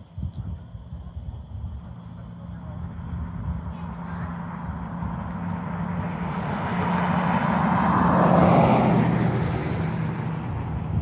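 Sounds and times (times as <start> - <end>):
low engine hum: 0.0 - 11.0
vehicle passing by: 1.7 - 11.0.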